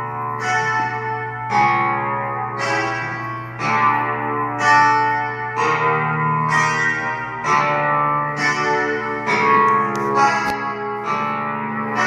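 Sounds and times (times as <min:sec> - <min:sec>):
guitar chords ringing: 0:00.0 - 0:12.0.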